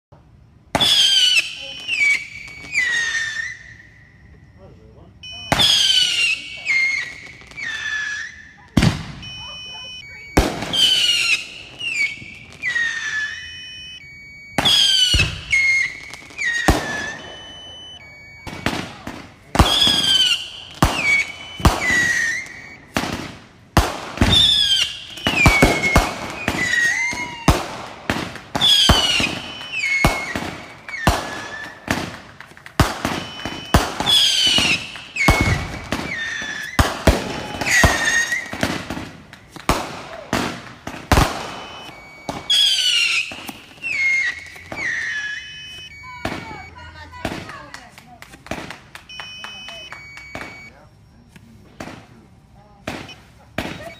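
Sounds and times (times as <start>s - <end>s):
whistling fireworks: 0.1s - 53.9s
fireworks bangs and pops: 5.2s - 53.9s.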